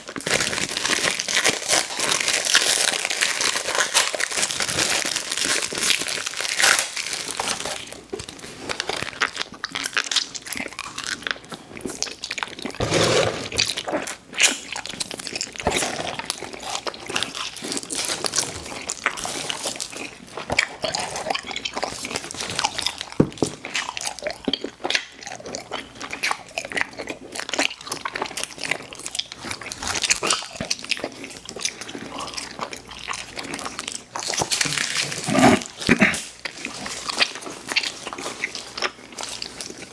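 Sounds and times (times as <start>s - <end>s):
chewing crunchy sweets: 0.0s - 39.9s.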